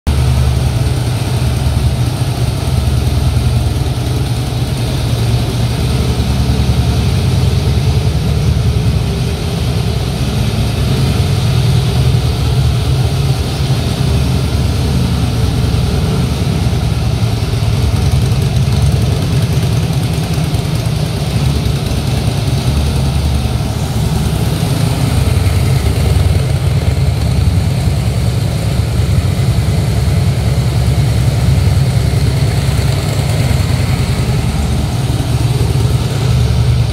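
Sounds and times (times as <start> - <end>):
motorcycle engine idling: 0.1 - 36.9.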